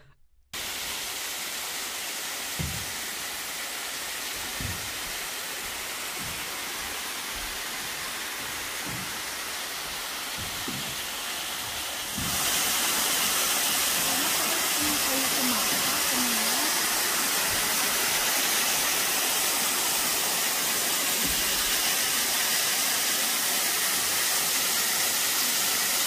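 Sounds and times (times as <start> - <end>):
stream rushing over rocks: 0.6 - 26.0
water cascading into pool: 0.6 - 26.0.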